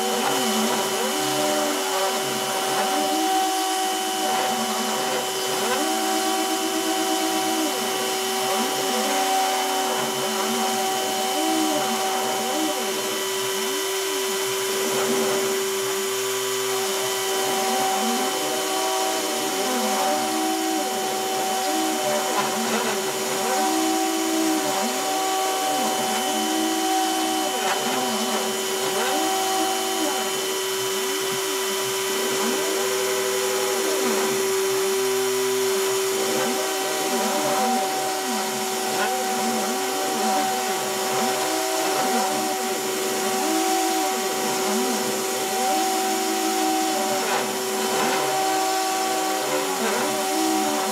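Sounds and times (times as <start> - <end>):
rotary tool spindle whining: 0.0 - 50.9.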